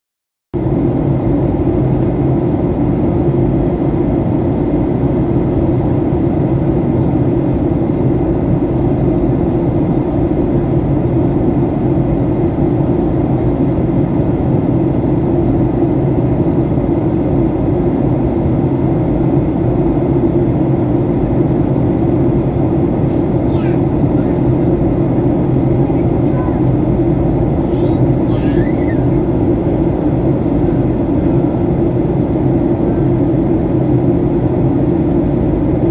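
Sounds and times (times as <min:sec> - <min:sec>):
jet engine cabin drone: 0:00.6 - 0:35.9.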